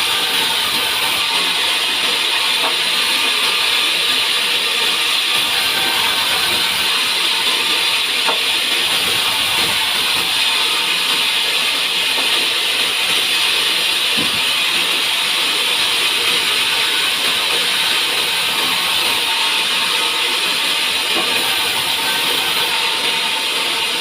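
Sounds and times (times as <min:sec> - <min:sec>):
saw cutting log: 0:00.0 - 0:24.0.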